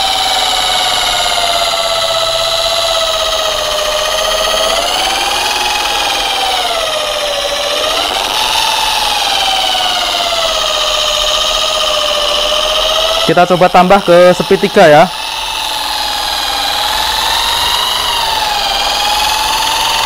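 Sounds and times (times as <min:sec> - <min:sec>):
polisher motor whine: 0:00.0 - 0:20.0.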